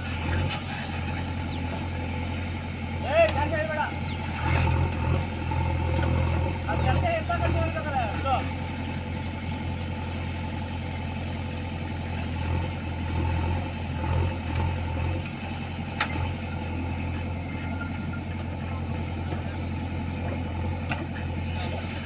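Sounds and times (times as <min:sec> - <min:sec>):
engine droning steadily: 0:00.0 - 0:22.0.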